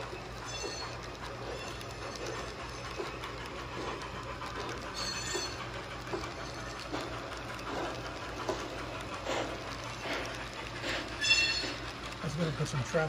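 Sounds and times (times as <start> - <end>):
model train wheels clicking on rails: 0.0 - 13.0
steady low hum: 0.0 - 13.0.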